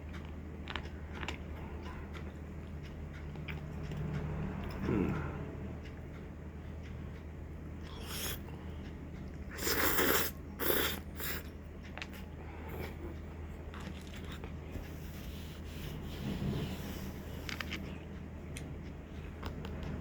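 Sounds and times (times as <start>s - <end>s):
person eating noisily: 0.0s - 6.0s, 7.8s - 18.7s.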